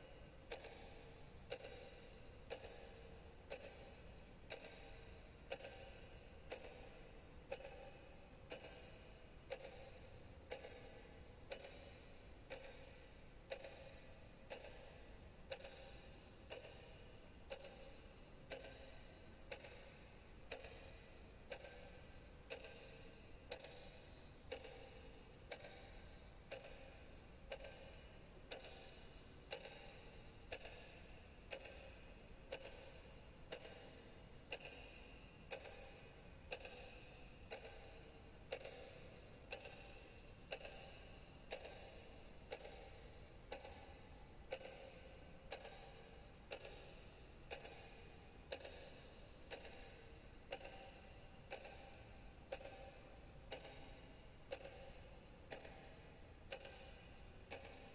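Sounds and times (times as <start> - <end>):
faint clock-like ticking: 0.0 - 57.9.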